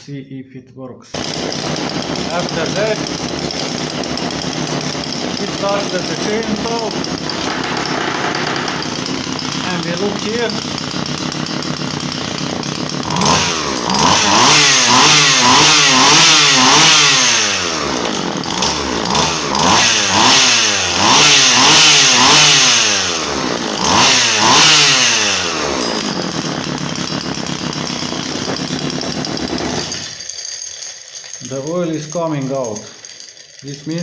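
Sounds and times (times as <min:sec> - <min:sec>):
chainsaw revving and idling: 0:01.1 - 0:34.0.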